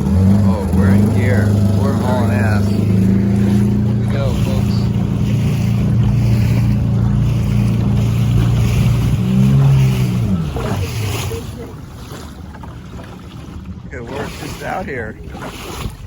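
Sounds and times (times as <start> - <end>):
outboard motor running: 0.0 - 16.0
rushing wind and water: 0.0 - 16.0.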